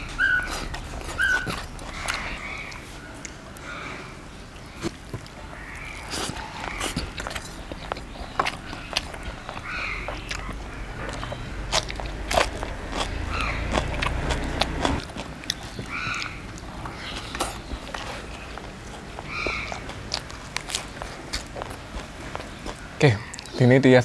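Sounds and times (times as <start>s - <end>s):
person chewing crunchy food: 0.0s - 23.6s.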